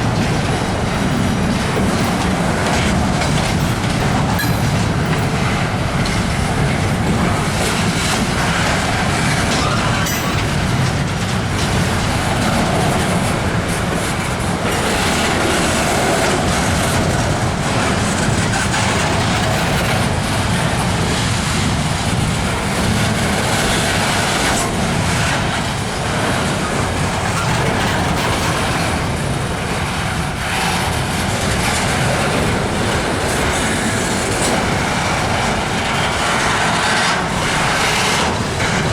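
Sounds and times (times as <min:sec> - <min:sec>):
freight train rumble: 0:00.0 - 0:38.9
wheels clacking over rail joints: 0:00.0 - 0:38.9.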